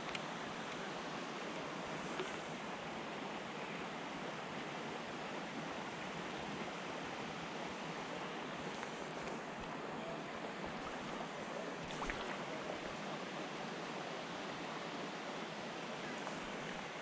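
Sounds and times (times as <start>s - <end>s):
water flowing: 0.0s - 17.0s.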